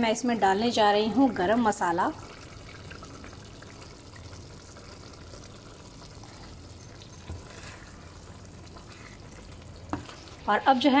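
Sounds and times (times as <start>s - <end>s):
curry bubbling in a pan: 0.3s - 11.0s.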